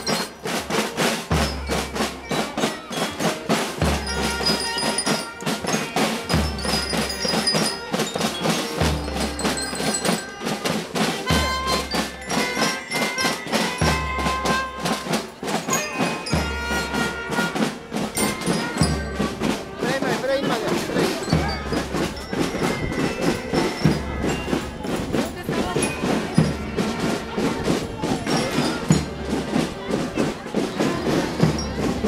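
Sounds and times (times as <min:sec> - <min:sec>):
bell lyres ringing melody: 0:00.0 - 0:30.0
snare drum rolls: 0:00.0 - 0:32.0.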